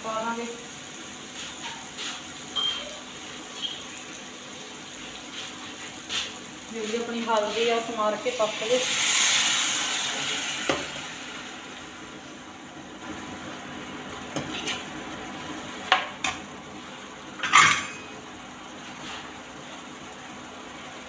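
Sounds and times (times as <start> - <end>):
water hissing in hot pan: 0.0 - 17.1.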